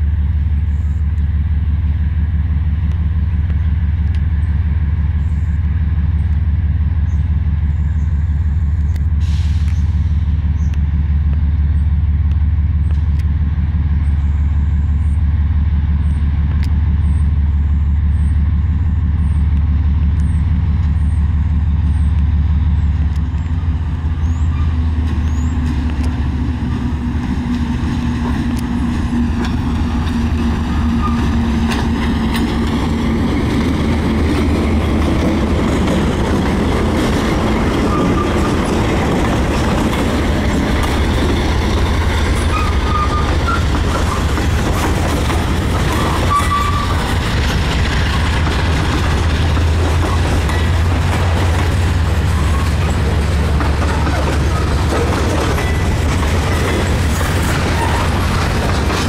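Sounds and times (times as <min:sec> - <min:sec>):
diesel locomotive engine rumble: 0:00.0 - 0:59.0
train wheels rolling on rails: 0:00.0 - 0:59.0.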